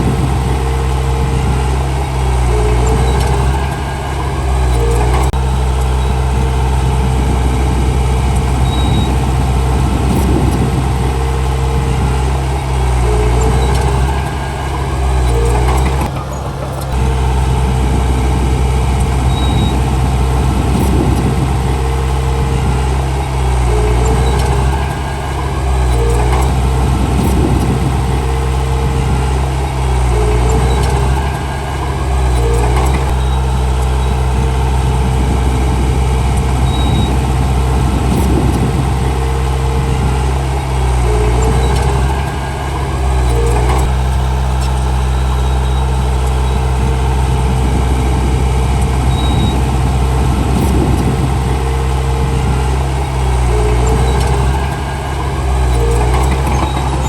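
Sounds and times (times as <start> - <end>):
heavy diesel engines working: 0.0 - 57.0.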